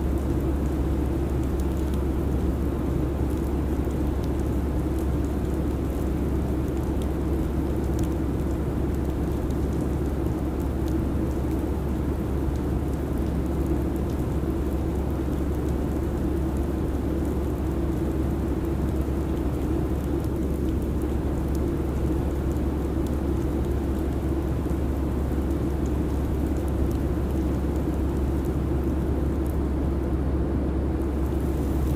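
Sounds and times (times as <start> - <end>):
airliner cabin rumble and hiss: 0.0 - 31.9.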